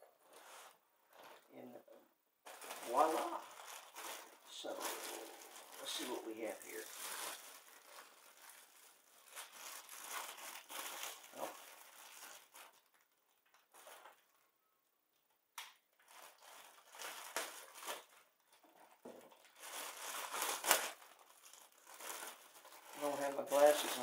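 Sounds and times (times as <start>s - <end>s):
plastic bags crinkling: 0.1s - 14.5s, 15.9s - 24.0s.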